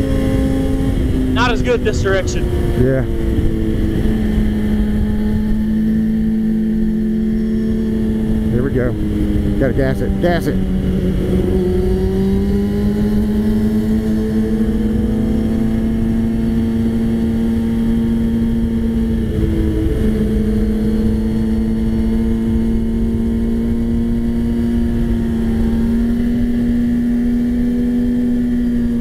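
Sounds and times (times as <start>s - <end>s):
motorcycle engine at high revs: 0.0s - 29.0s
wind rumbling on microphone: 0.0s - 29.0s.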